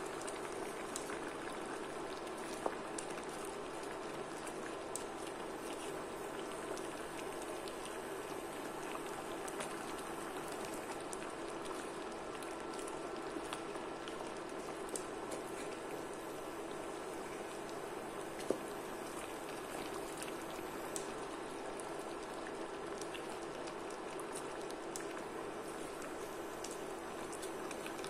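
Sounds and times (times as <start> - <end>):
curry bubbling in a pan: 0.0 - 28.0.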